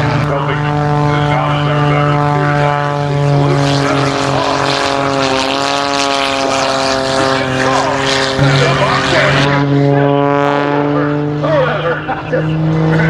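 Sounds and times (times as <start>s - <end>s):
propeller airplane flying by: 0.0s - 13.0s.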